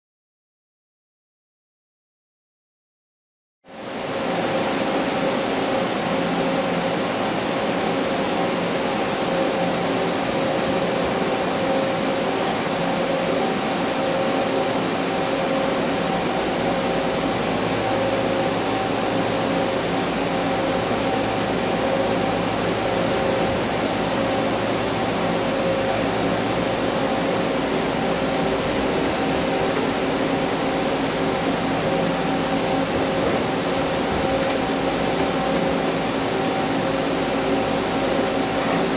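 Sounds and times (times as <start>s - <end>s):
machine humming with constant tones: 3.7s - 38.9s.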